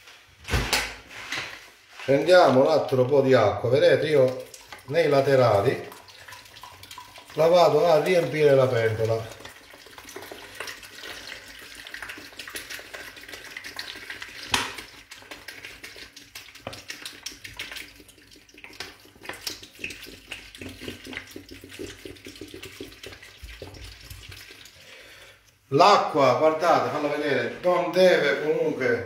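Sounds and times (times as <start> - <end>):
water pouring into a pot: 2.1 - 25.7.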